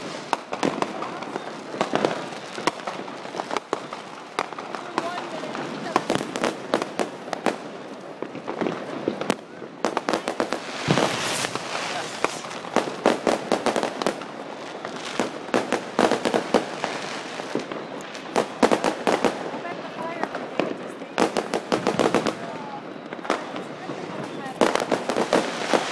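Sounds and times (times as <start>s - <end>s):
fireworks bangs and pops: 0.0s - 25.9s
fireworks hissing: 0.0s - 25.9s.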